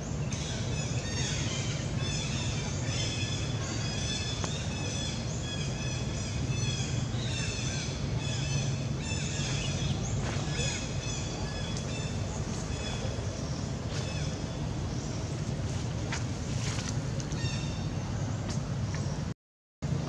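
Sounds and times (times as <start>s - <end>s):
birds calling: 0.0s - 19.3s
steady low rumble: 0.0s - 20.0s.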